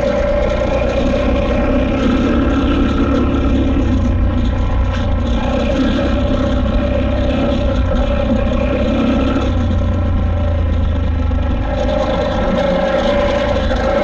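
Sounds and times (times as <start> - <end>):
motorcycle engine running under load: 0.0 - 14.0.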